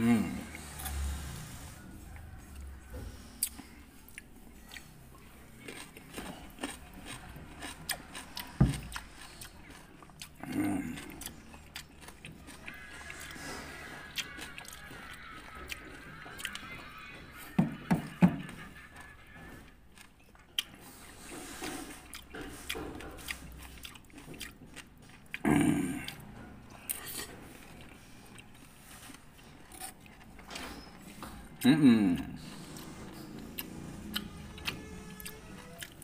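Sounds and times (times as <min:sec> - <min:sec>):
chewing and biting fruit: 0:00.2 - 0:36.0.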